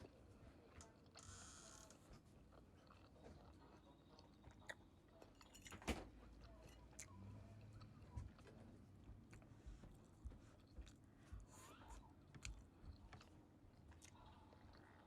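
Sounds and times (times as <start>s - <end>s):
quiet chewing: 0.0s - 15.0s.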